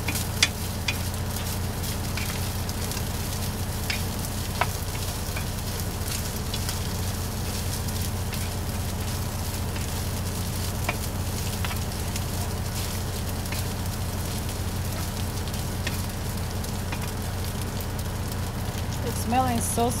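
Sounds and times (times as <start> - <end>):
small pops and crackles: 0.0 - 19.6
food sizzling in a frying pan: 0.0 - 20.0.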